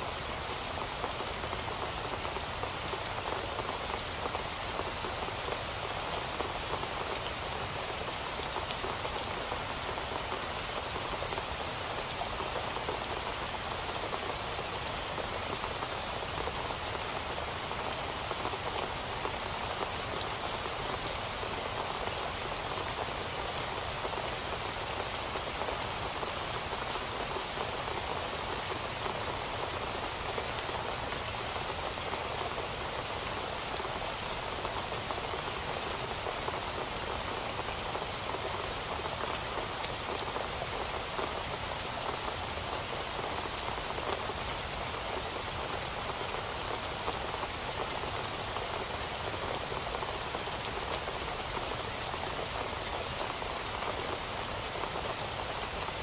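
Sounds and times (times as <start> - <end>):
rain falling on a surface: 0.0 - 56.0.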